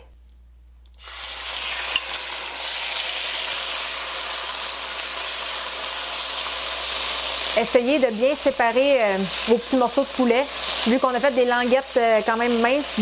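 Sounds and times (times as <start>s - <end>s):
chicken sizzling in hot oil: 1.0s - 13.0s.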